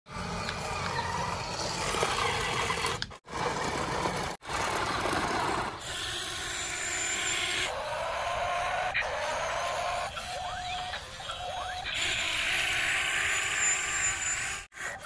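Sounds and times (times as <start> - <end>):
toy motors and gears whirring: 0.1 - 15.0.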